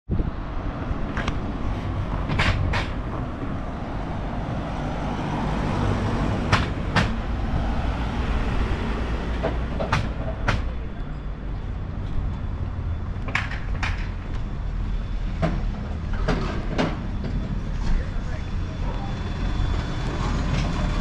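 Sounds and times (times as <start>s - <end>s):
street traffic rumble: 0.1s - 21.0s.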